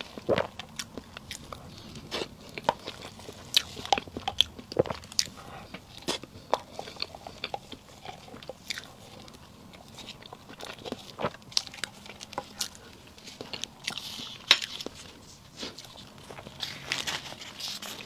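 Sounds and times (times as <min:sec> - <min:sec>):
close chewing and mouth sounds: 0:00.0 - 0:18.0.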